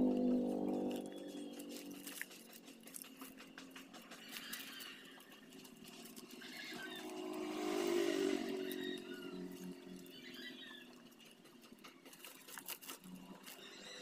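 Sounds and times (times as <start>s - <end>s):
hands working potting soil: 0.0s - 14.0s
vehicle engine running: 0.0s - 14.0s.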